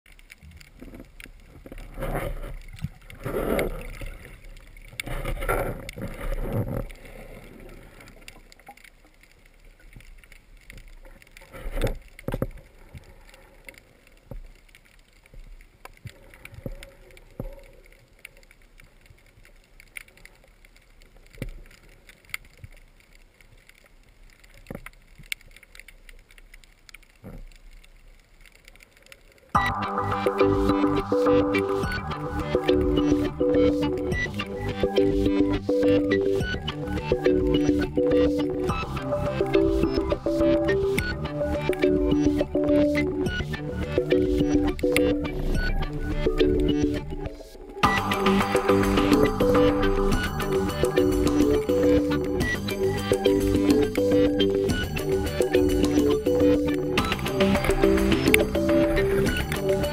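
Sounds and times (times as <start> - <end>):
sharp underwater clicks: 0.1 - 59.9
water rushing underwater: 0.1 - 59.9.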